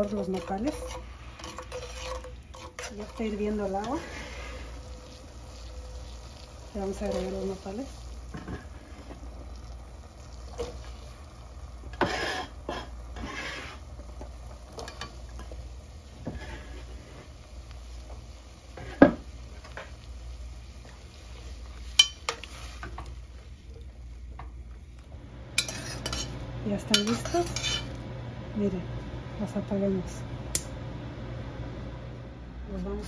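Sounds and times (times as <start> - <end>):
water boiling in a pot: 0.0 - 32.1.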